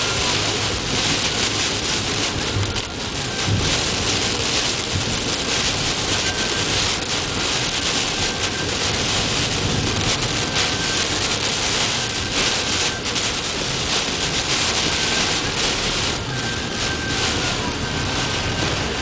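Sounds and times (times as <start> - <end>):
heavy rain on a car: 0.0 - 19.0.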